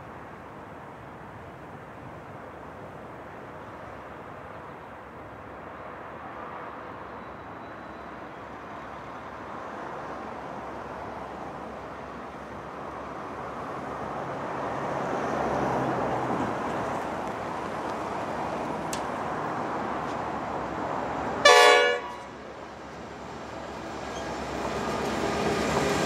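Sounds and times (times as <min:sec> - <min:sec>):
train rumble of engines and wheels: 0:00.0 - 0:26.0
low locomotive engine drone: 0:01.8 - 0:26.0.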